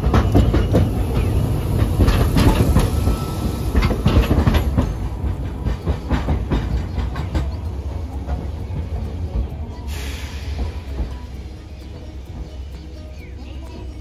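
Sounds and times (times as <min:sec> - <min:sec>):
streetcar wheels clacking on rails: 0:00.0 - 0:14.0.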